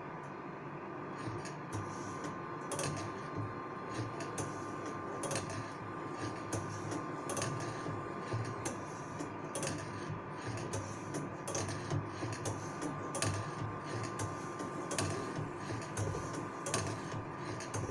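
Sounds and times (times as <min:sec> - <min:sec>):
motor hum: 0:00.9 - 0:17.9.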